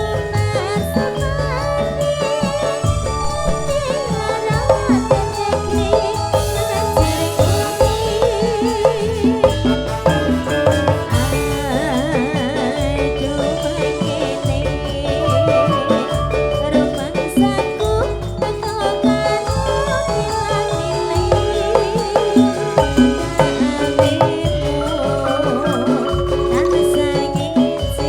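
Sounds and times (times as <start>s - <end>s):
drum beat with heavy bass: 0.0s - 28.0s
wavering melody line: 0.0s - 28.0s.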